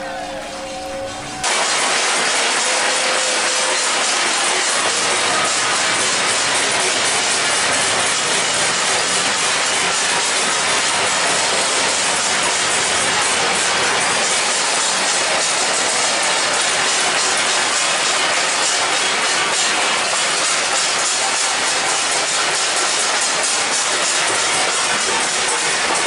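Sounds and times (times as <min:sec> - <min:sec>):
beating metal plates: 0:00.0 - 0:26.0
people clapping: 0:00.0 - 0:26.0.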